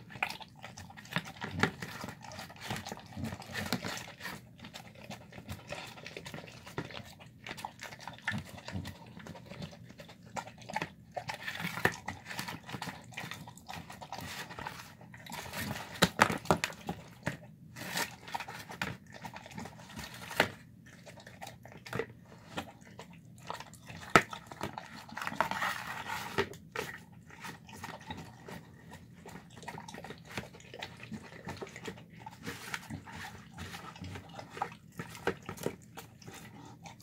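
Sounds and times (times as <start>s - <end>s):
dog chewing and lapping: 0.0s - 37.0s.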